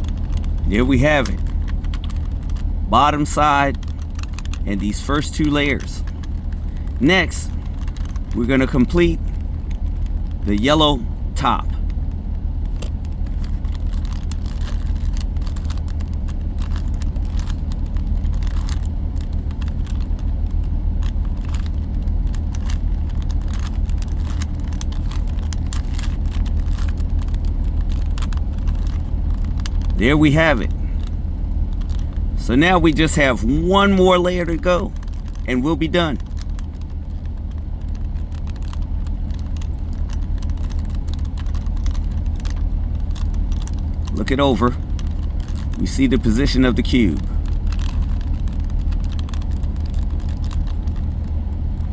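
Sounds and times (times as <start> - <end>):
puzzle cube layers clicking: 0.0 - 10.8, 12.6 - 51.1
steady low hum: 0.0 - 51.9
steady low rumble: 0.0 - 51.9.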